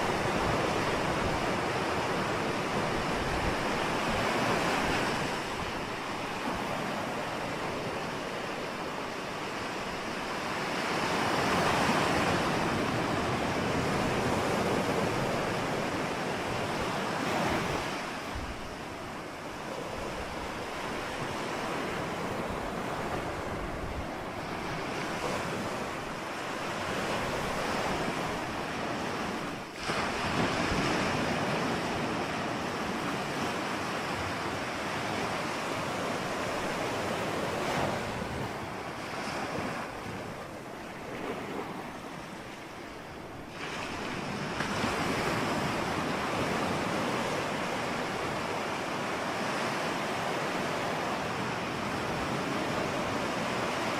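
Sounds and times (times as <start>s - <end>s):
ocean waves: 0.0s - 53.9s.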